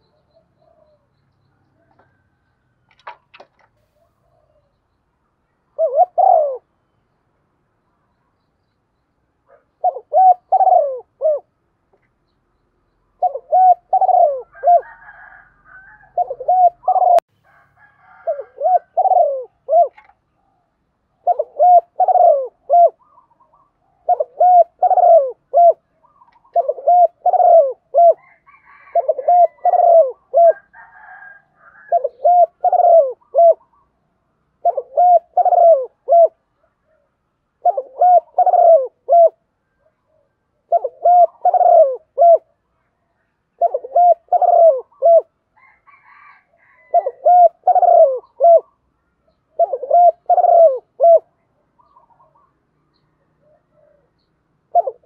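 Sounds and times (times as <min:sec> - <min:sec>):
dove cooing: 0:00.0 - 0:01.1, 0:05.7 - 0:06.7, 0:09.5 - 0:11.6, 0:13.2 - 0:42.6, 0:43.5 - 0:52.6, 0:53.2 - 0:55.0.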